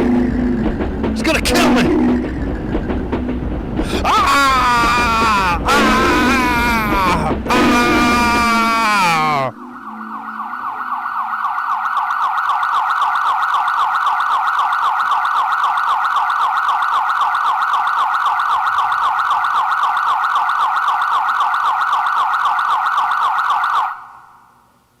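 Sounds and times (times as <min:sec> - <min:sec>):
siren yelping: 0:03.9 - 0:24.2.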